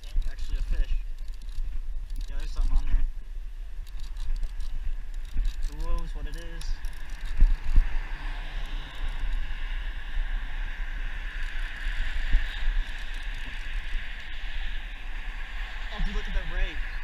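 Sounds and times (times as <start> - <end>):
wind rumbling on microphone: 0.0 - 17.0
road traffic hiss: 2.4 - 17.0.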